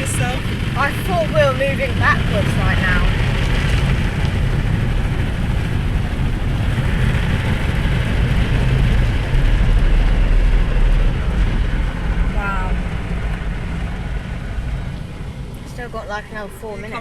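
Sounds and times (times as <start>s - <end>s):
automatic car wash rumble and hiss: 0.0s - 11.4s, 12.2s - 17.0s.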